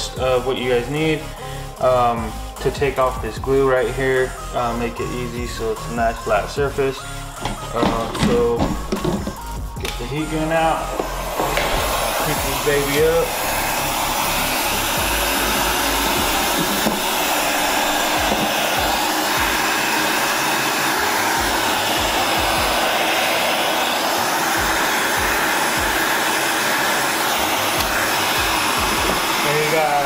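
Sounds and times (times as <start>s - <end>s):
heat gun blowing air: 0.2s - 3.1s, 3.9s - 30.0s.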